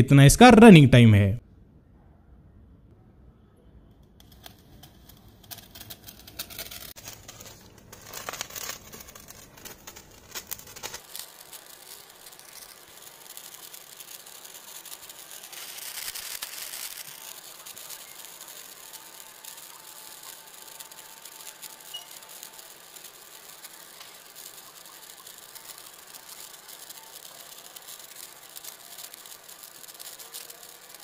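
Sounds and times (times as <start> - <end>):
sparkler crackling and fizzing: 4.2 - 31.0.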